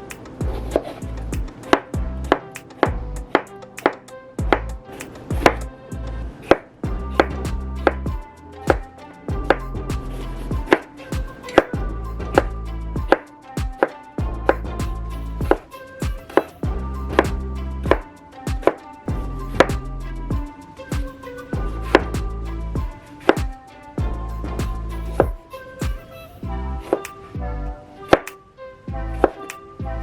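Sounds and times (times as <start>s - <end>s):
background music with bass: 0.0s - 27.9s, 28.9s - 30.0s.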